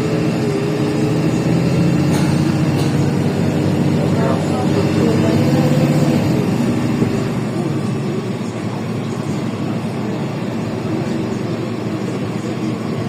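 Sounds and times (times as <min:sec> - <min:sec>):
bus diesel engine running: 0:00.0 - 0:13.0
road and body noise: 0:00.0 - 0:13.0.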